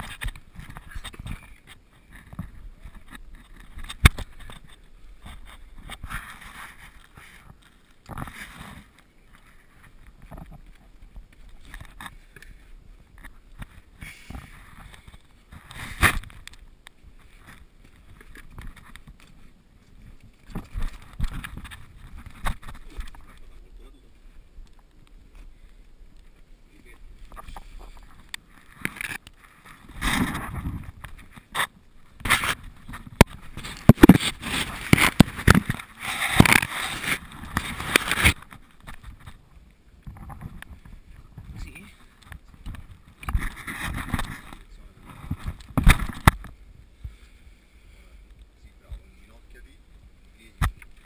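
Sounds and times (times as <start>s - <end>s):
camera rubbing against rock: 0.0s - 46.6s
scuffing and rustling in cave: 0.0s - 47.3s.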